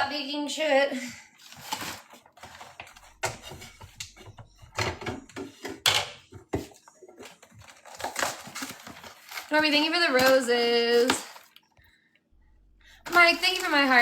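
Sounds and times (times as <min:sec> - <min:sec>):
food packages clicking and knocking: 0:01.4 - 0:11.9, 0:12.9 - 0:14.0.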